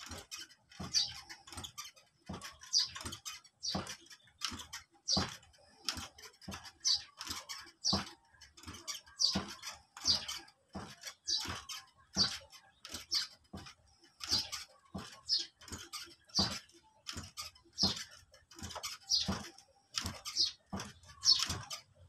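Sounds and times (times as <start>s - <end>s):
rocking chair creaking: 0.0s - 22.0s.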